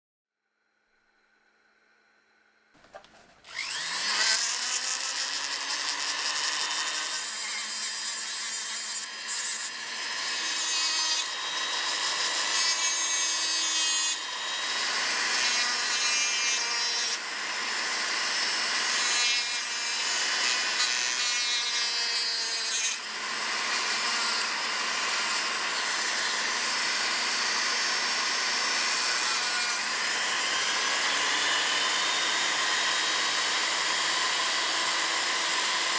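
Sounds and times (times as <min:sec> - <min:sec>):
power tool abrading antler: 0:02.8 - 0:35.9.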